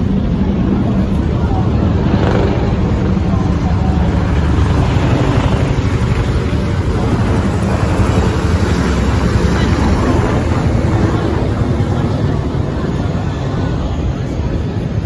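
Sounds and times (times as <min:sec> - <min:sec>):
helicopters flying overhead: 0:00.0 - 0:15.0.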